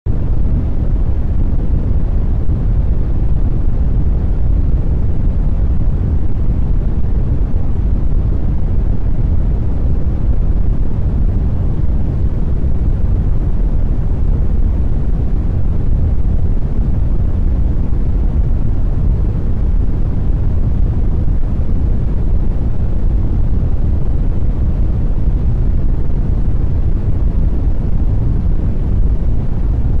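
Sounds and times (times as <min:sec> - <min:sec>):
rushing air rumble: 0:00.1 - 0:30.0.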